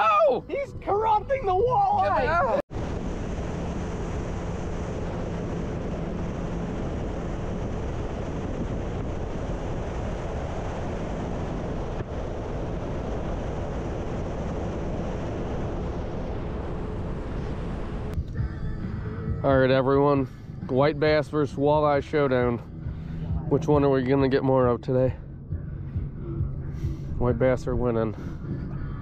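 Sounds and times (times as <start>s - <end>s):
motorboat engine hum: 0.0s - 29.0s
water noise: 0.0s - 29.0s
wind on microphone: 0.5s - 29.0s.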